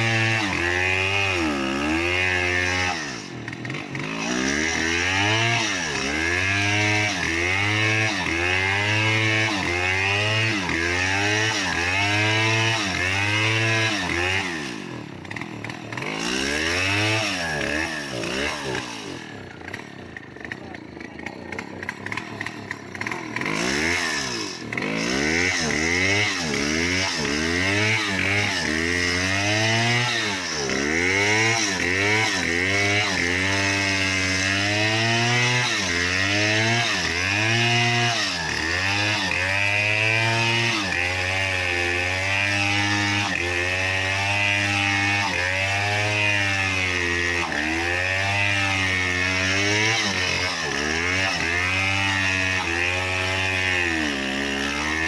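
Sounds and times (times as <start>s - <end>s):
chainsaw cutting a tree: 0.0s - 55.0s.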